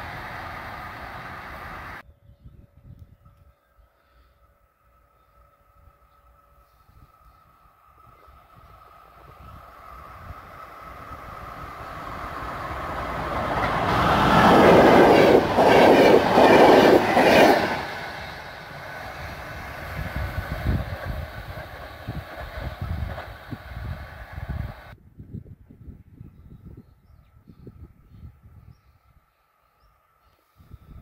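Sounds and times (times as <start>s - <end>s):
passenger train passing: 0.0s - 25.0s.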